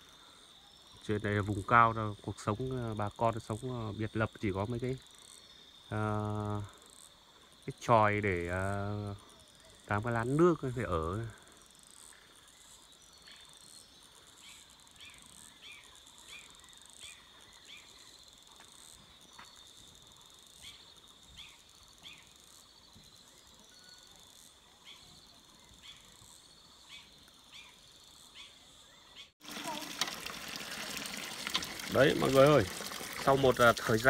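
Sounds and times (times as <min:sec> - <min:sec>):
cricket-like chirring: 0:00.0 - 0:29.8
high-pitched insect buzz: 0:00.0 - 0:30.2.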